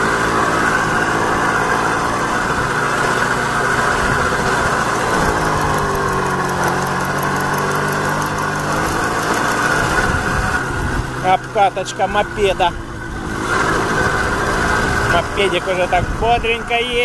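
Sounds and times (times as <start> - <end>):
moped engine running: 0.0 - 17.0.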